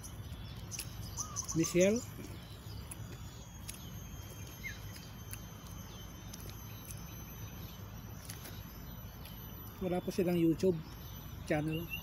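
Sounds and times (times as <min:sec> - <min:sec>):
bird chirp: 0:00.0 - 0:12.0.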